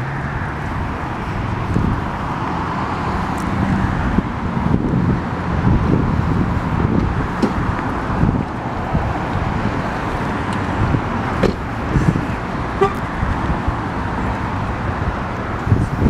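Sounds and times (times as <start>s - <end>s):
road traffic rumble: 0.0s - 16.0s
wind on microphone: 0.6s - 16.0s.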